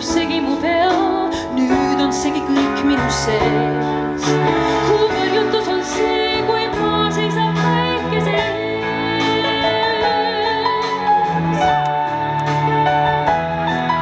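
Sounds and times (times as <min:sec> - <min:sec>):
woman singing with vibrato: 0:00.0 - 0:11.7
symphony orchestra with violins: 0:00.0 - 0:14.0.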